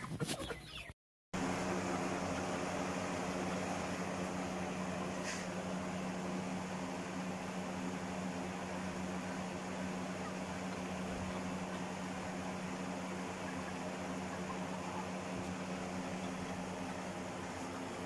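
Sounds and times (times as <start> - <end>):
mechanical hum: 0.2 - 18.0.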